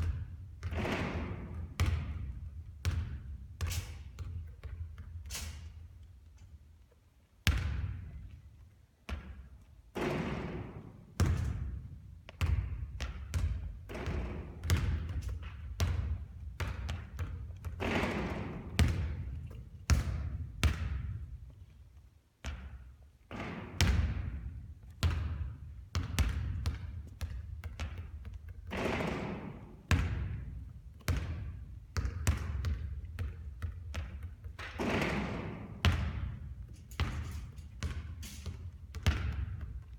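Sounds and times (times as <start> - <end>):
basketballs bouncing on hard court: 0.0 - 6.2, 7.4 - 21.8, 22.4 - 39.9.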